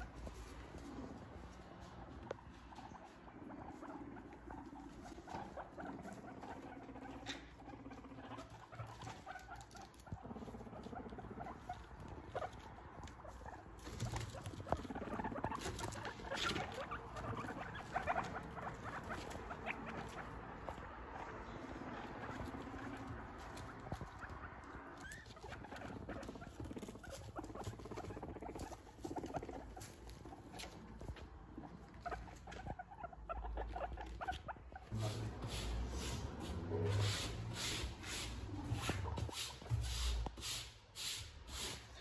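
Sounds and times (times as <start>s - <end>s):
guinea pigs squeaking: 0.0s - 41.8s
guinea pigs rustling through hay: 0.0s - 42.0s.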